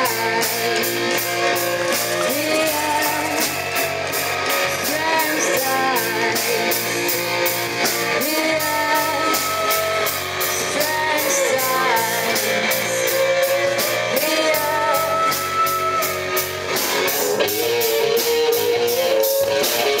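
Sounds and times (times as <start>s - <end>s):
woman singing: 0.0s - 16.4s, 17.2s - 20.0s
bass guitar: 0.0s - 20.0s
drum kit with cymbals: 0.0s - 20.0s
electric guitar: 0.0s - 20.0s.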